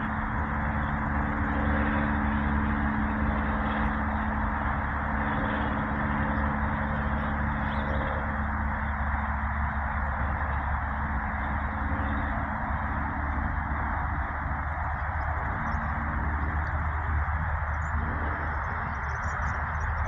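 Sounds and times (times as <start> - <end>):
low hum: 0.0 - 20.0
road traffic passing: 0.0 - 20.0.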